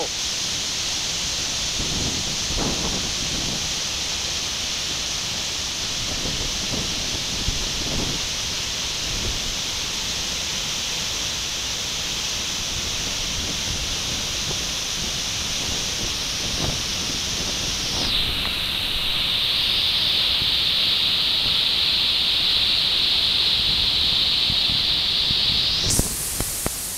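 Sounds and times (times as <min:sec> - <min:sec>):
waterfall rushing hiss: 0:00.0 - 0:26.9.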